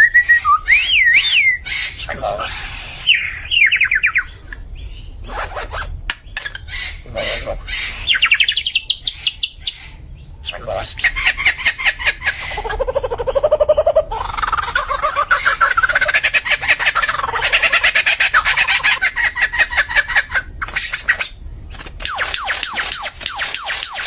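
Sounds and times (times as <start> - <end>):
bird chirping and trilling: 0.0 - 24.0.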